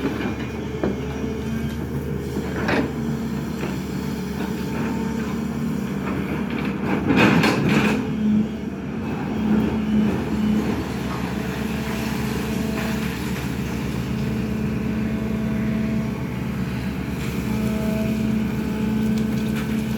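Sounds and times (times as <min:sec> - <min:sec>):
excavator diesel engine: 0:00.0 - 0:19.9.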